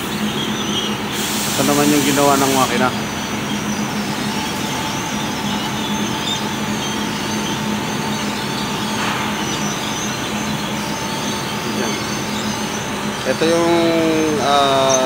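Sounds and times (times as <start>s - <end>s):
high machine whine: 0.0s - 15.0s
low machinery drone: 0.0s - 15.0s.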